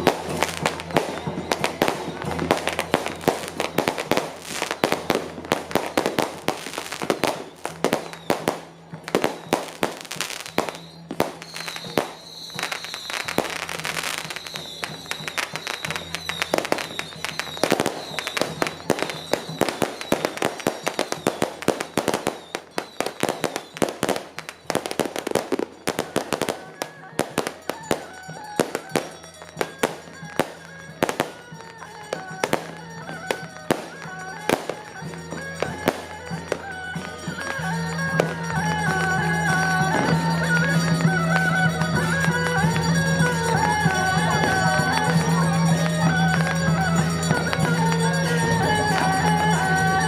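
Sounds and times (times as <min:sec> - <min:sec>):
firecrackers cracking: 0:00.0 - 0:50.0.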